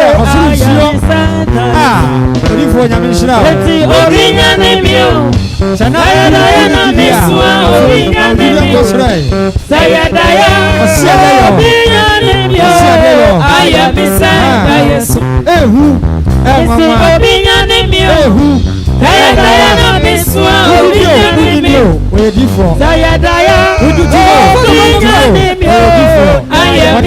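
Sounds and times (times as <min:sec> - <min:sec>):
person singing: 0:00.0 - 0:02.8, 0:03.4 - 0:09.1, 0:09.7 - 0:22.0, 0:22.6 - 0:27.0
bass line: 0:00.0 - 0:27.0
drum beat: 0:00.0 - 0:27.0.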